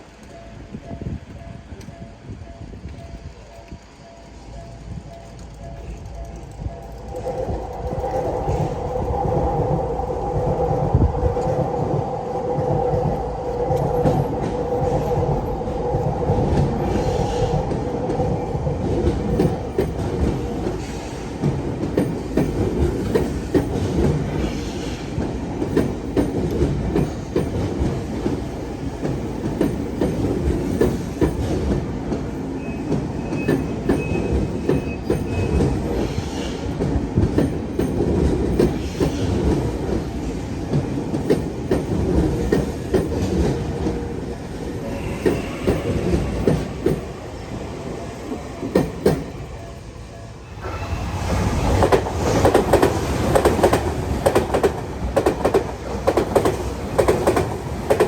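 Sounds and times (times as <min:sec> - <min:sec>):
train wheels clicking over rail joints: 0:00.0 - 0:49.6, 0:50.6 - 0:58.0
steady train hum: 0:00.0 - 0:58.0.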